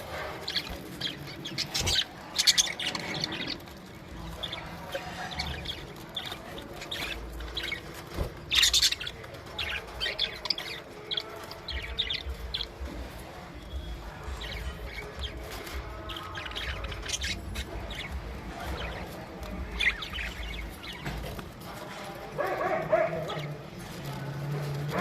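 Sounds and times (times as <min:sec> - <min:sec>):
budgerigars chirping: 0:00.1 - 0:21.4.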